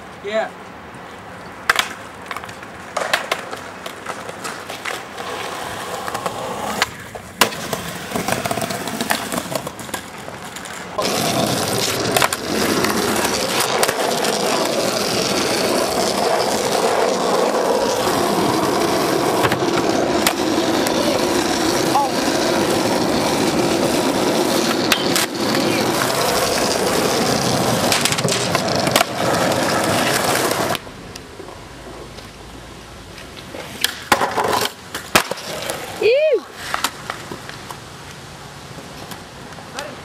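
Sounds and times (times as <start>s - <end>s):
skateboard wheels rolling on asphalt: 0.0s - 40.0s
skateboard knocks and clacks: 1.6s - 32.4s, 33.2s - 36.0s.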